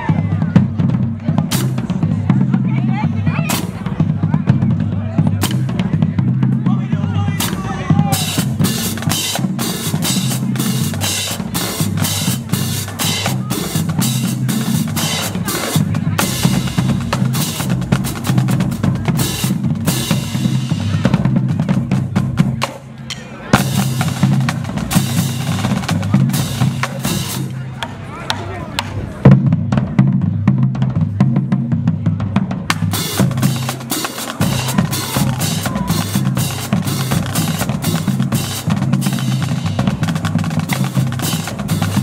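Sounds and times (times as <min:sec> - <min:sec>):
bass drums: 0:00.0 - 0:42.0
snare drums: 0:00.0 - 0:42.0.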